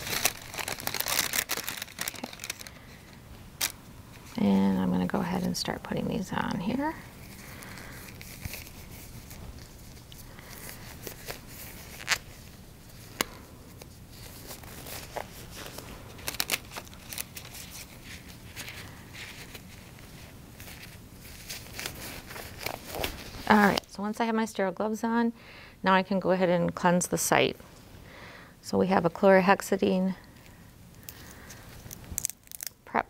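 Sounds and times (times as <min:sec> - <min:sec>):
gloves and paper rustling: 0:00.0 - 0:24.5, 0:29.3 - 0:33.0.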